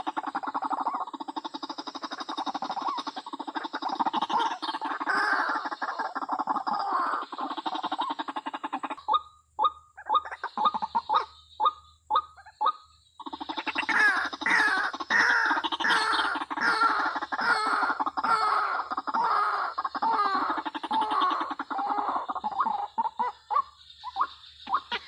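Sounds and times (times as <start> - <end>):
waterhens calling: 0.0 - 25.0.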